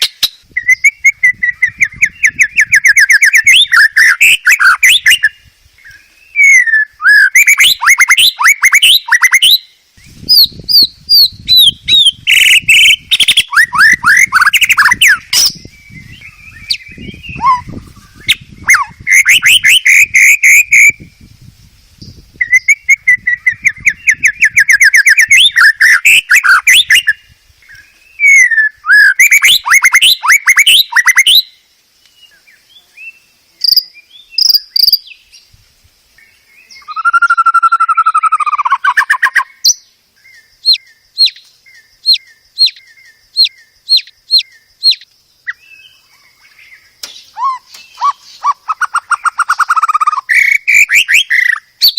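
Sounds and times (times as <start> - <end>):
bird singing whistled trills: 0.0 - 35.6, 36.2 - 51.9.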